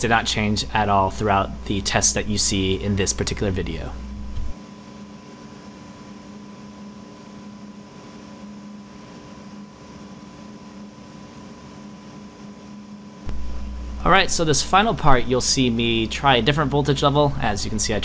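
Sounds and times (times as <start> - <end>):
machinery hum with low drone: 0.0 - 18.0.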